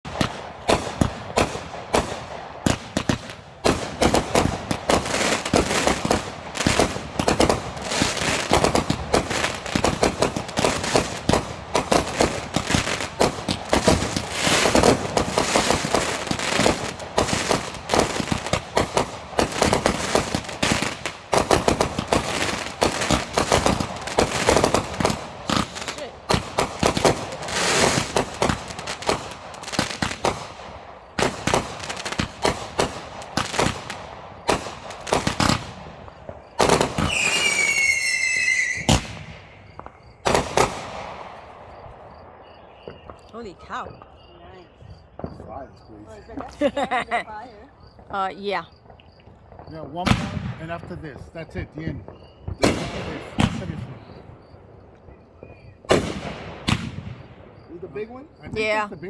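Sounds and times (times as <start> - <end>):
fireworks banging and crackling: 0.0 - 59.0.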